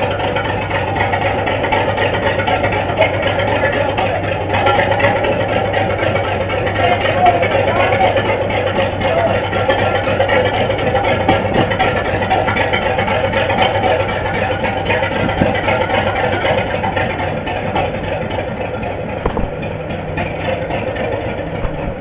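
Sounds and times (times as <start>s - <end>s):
diesel locomotive engine idling: 0.0s - 22.0s.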